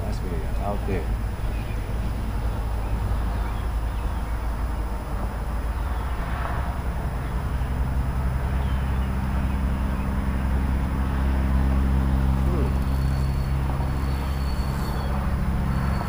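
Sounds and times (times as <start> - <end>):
distant motor drone: 0.0 - 16.0.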